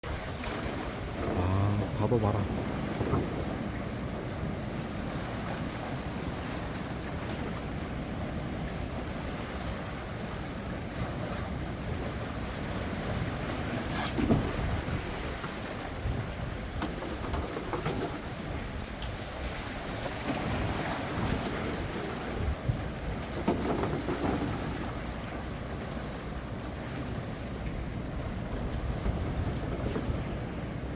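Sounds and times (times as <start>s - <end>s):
waves against a breakwater: 0.0s - 30.9s
wind buffeting microphone: 0.0s - 30.9s.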